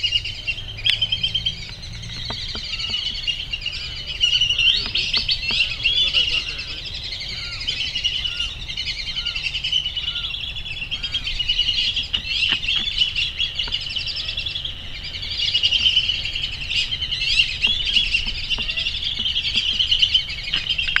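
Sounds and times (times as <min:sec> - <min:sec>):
ducks whistling calls: 0:00.0 - 0:21.0.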